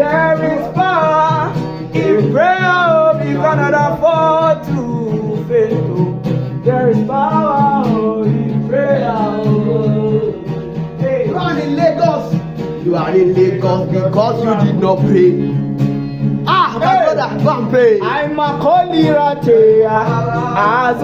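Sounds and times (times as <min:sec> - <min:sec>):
gospel music with singing voice: 0:00.0 - 0:15.7, 0:16.3 - 0:21.0.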